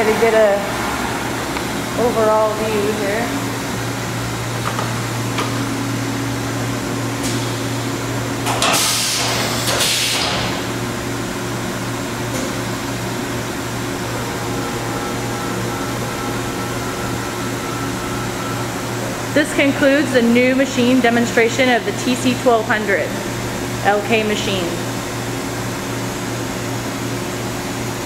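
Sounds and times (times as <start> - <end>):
machine humming: 0.0 - 28.0.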